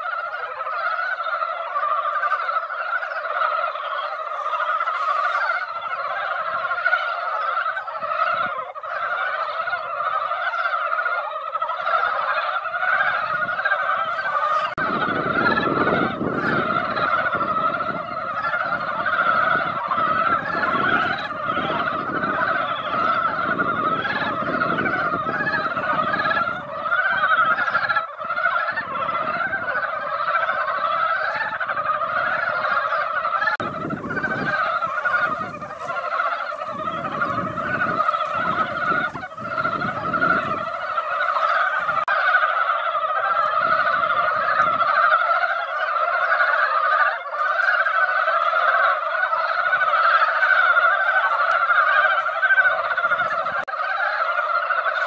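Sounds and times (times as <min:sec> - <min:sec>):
chorus of frogs calling: 0:00.0 - 0:55.0.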